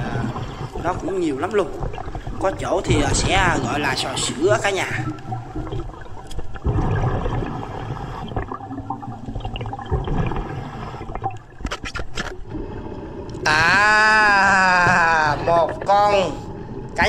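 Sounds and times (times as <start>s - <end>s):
underwater breathing bubbles: 0.0s - 17.0s.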